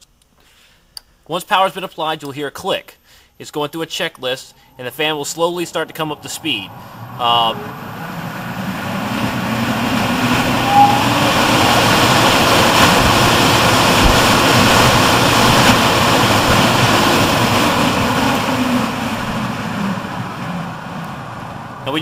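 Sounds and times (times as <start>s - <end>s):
fan rush of air: 3.0s - 22.0s.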